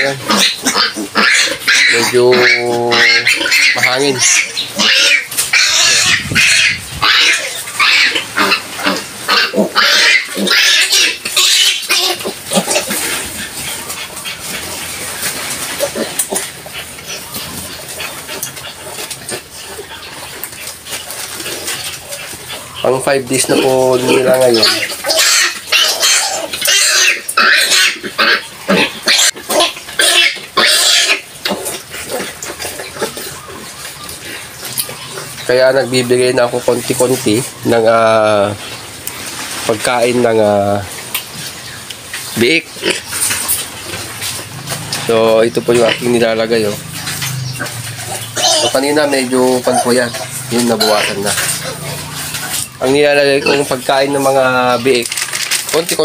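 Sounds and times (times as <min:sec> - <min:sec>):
piglets squealing: 0:00.0 - 0:56.0.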